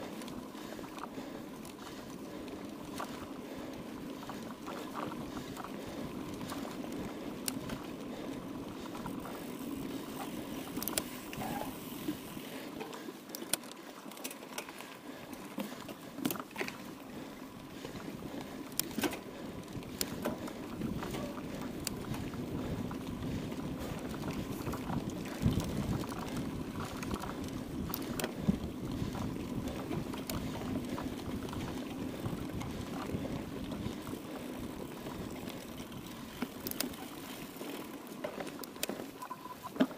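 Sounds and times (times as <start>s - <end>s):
bike rattling over bumps: 0.0s - 39.9s
bike tyres on rough trail: 0.0s - 39.9s.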